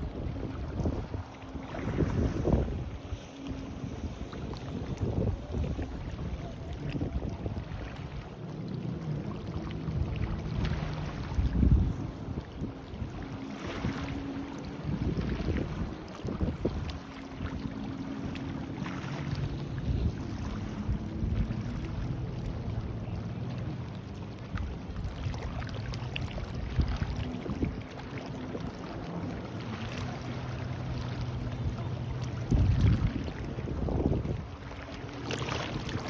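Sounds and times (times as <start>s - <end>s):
boat engine droning: 0.0s - 36.0s
wind buffeting microphone: 0.0s - 36.0s.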